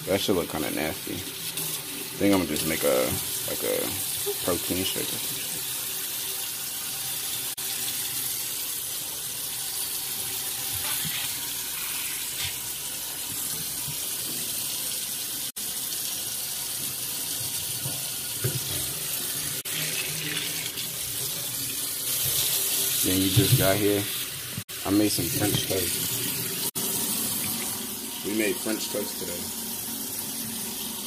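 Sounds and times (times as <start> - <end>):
faucet running into sink: 0.0 - 31.0.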